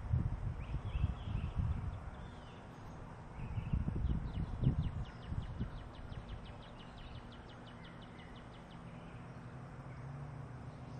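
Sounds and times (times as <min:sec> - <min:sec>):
songbird trill: 0:00.0 - 0:10.9.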